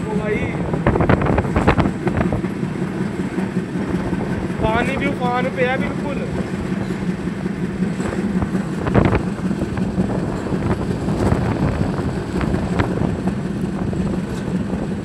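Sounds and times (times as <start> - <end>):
train wheels rumbling on rail: 0.0 - 15.0
wind buffeting microphone: 0.0 - 15.0.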